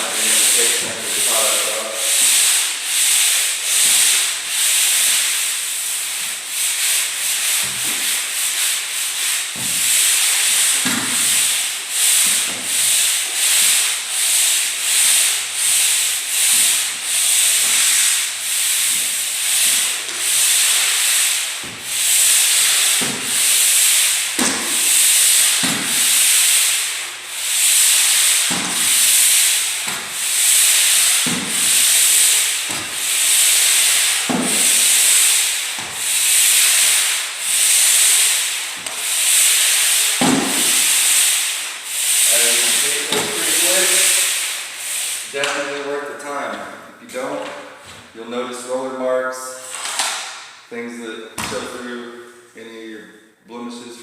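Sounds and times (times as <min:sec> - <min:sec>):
sander rubbing on drywall: 0:00.0 - 0:52.3.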